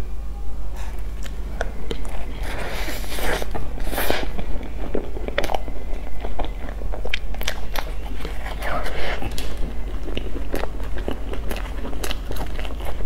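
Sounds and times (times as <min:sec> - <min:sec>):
crunching and chewing pastry: 0:00.8 - 0:13.0.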